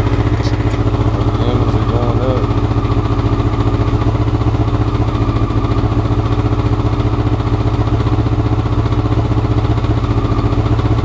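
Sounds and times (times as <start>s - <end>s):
motorcycle engine idling roughly: 0.0s - 11.0s.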